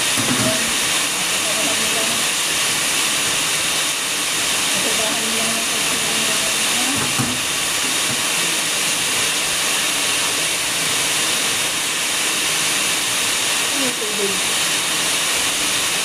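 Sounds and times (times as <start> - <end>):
steady hissing noise: 0.0 - 16.0.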